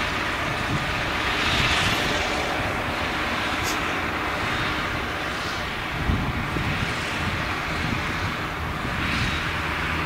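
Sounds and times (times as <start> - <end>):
harvester engine droning under load: 0.0 - 10.0.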